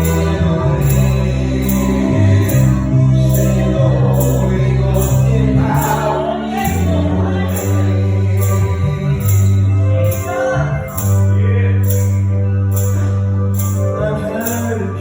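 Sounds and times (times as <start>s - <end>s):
live gospel band: 0.0s - 15.0s
voices singing: 0.0s - 15.0s.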